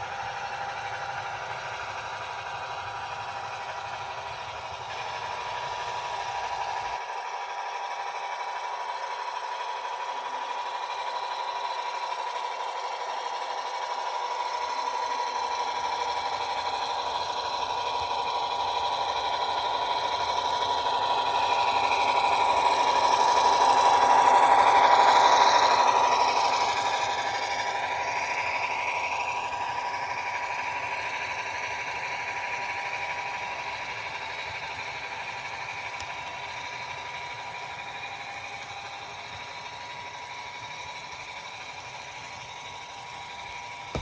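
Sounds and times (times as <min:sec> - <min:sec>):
diesel engine sound from small speaker: 0:00.0 - 0:44.0
model locomotive drive rattle: 0:00.0 - 0:44.0.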